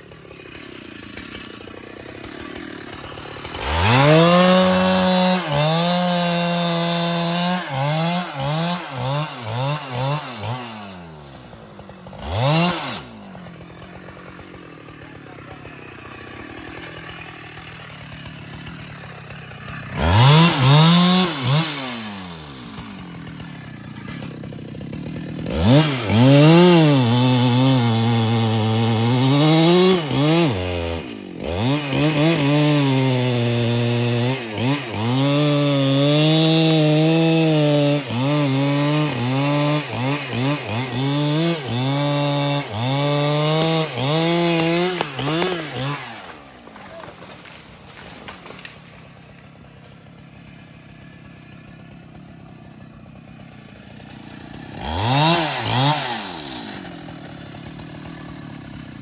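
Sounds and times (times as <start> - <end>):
chainsaw cutting wood: 0.0 - 59.0
chainsaw revving: 0.0 - 59.0.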